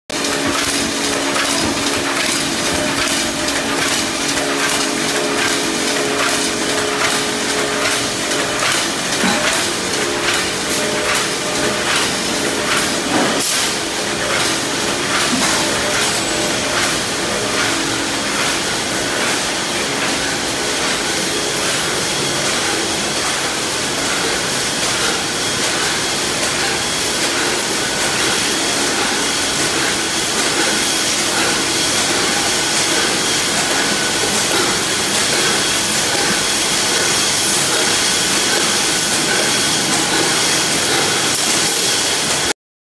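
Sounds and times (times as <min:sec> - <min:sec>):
machines hissing and rattling: 0:00.2 - 0:42.5.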